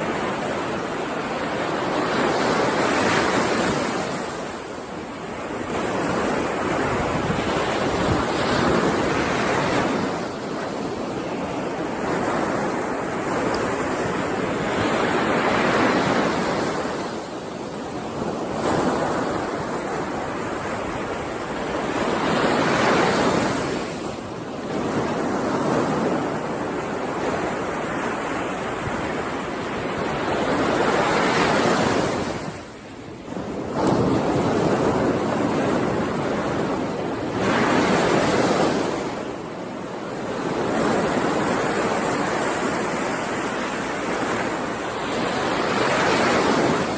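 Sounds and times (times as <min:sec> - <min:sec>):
ocean waves washing in: 0:00.0 - 0:46.9.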